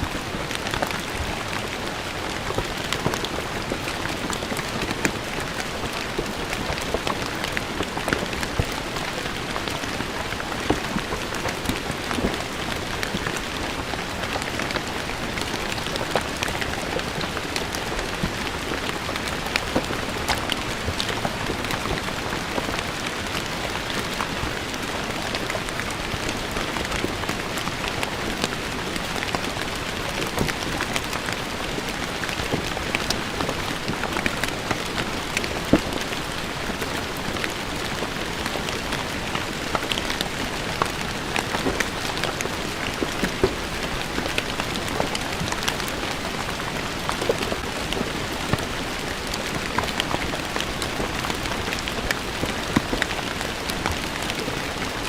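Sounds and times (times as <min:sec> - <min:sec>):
raindrops spattering on stone: 0:00.0 - 0:55.0.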